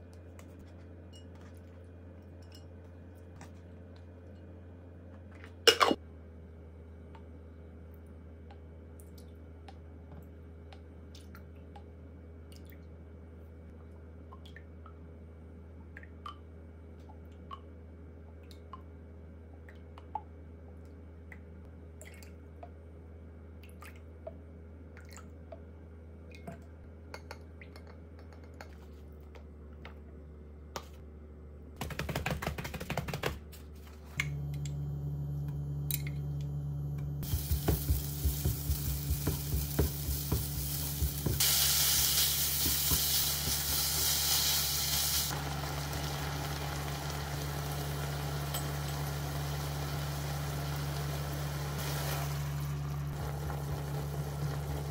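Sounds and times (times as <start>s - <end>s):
low steady hum: 0.0s - 31.8s, 33.4s - 54.9s.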